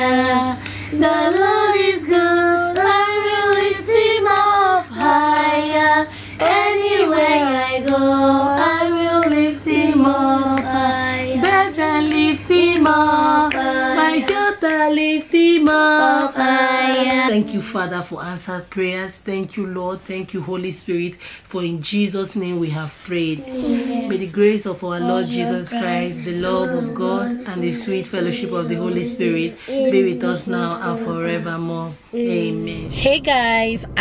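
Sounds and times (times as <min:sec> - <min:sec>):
woman and children singing: 0:00.0 - 0:18.1, 0:23.2 - 0:32.6.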